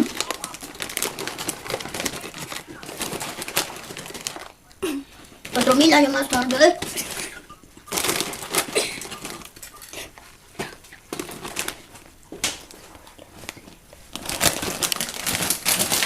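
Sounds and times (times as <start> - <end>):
dishes and packaging handled: 0.0 - 16.0.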